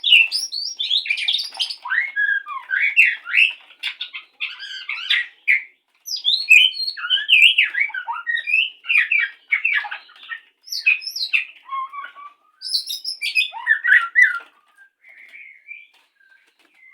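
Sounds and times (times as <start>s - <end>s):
bird singing whistles and chirps: 0.0s - 16.9s.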